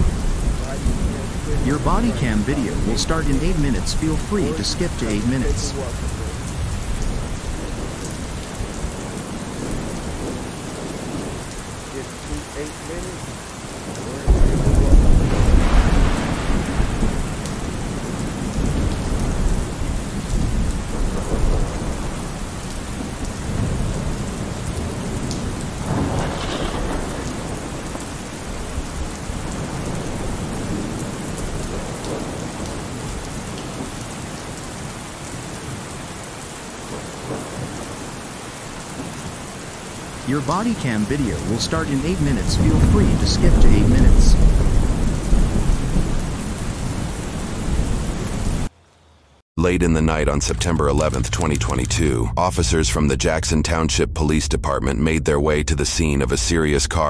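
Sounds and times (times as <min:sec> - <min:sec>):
thunder rumbling: 0:00.0 - 0:48.7
steady rain: 0:00.0 - 0:52.7.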